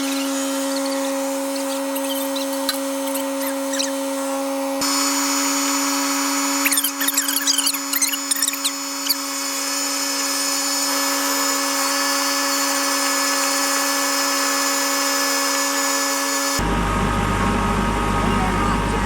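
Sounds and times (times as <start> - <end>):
steady mechanical whine: 0.0 - 19.0.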